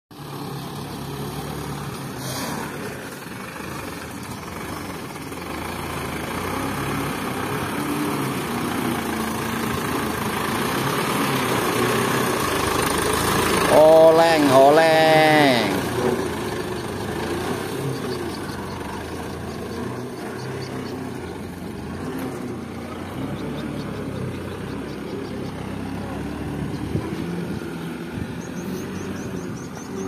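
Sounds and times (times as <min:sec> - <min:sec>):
diesel truck engine running: 0:00.1 - 0:30.0.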